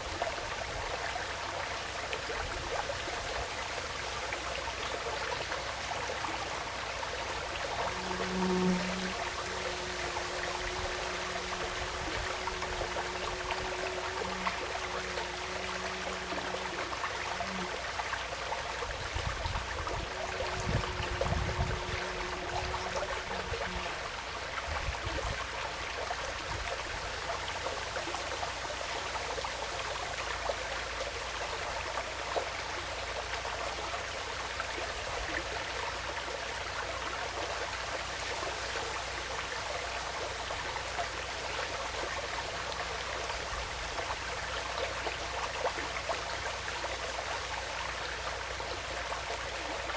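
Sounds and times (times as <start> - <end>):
faint steady hum: 0.0 - 49.9
stream flowing: 0.0 - 49.9.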